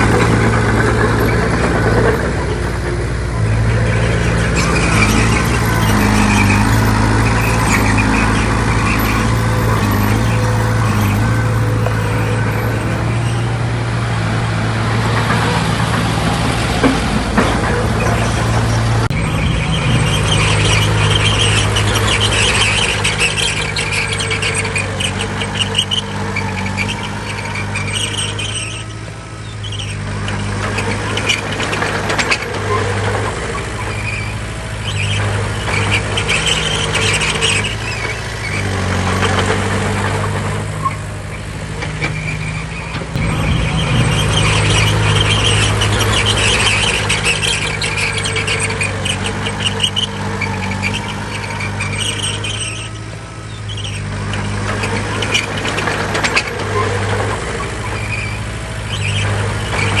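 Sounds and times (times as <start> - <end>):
bulldozer diesel engine: 0.0 - 60.0
steel tracks squealing and clanking: 0.0 - 60.0.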